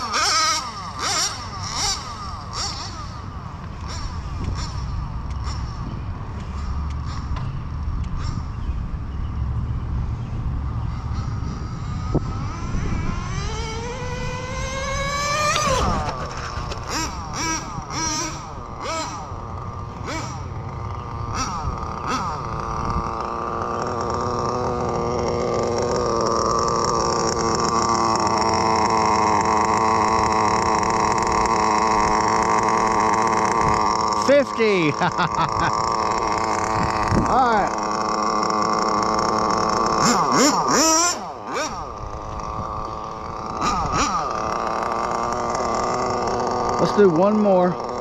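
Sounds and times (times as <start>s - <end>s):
small nitro engine screaming: 0.0s - 5.9s, 10.6s - 48.0s.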